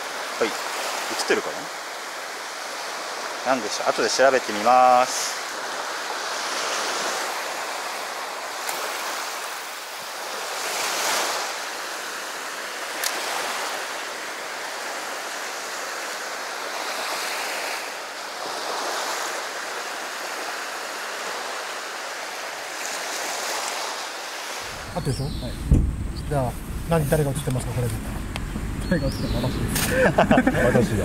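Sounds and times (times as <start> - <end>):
small waves washing on sand: 0.0 - 25.1.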